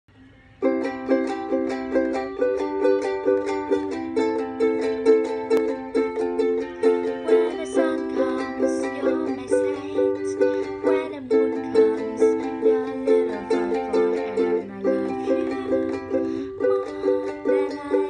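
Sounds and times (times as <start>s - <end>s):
ukulele strumming: 0.2s - 18.0s.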